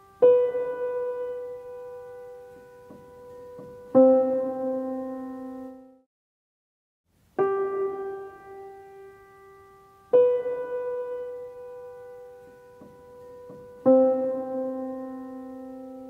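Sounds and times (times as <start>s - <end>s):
slow piano notes: 0.0s - 6.1s, 7.2s - 16.0s.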